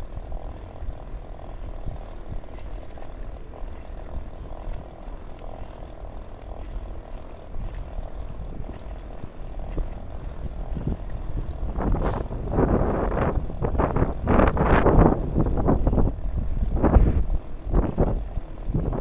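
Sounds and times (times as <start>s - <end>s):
bicycle tyres rolling on asphalt: 0.0s - 19.0s
wind buffeting microphone: 0.0s - 19.0s.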